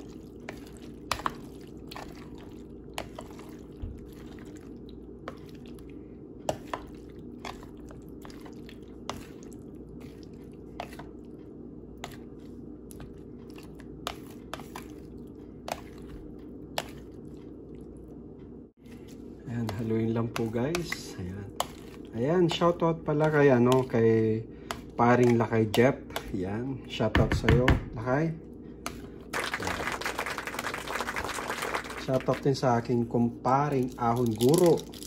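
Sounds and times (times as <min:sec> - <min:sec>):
wet squishing of stirring: 0:00.0 - 0:27.4, 0:28.4 - 0:35.0.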